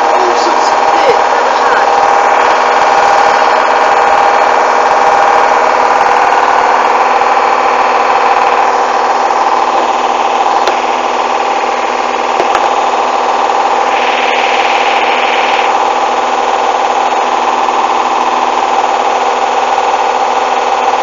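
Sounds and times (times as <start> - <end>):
washing machine spin whine: 0.0 - 21.0.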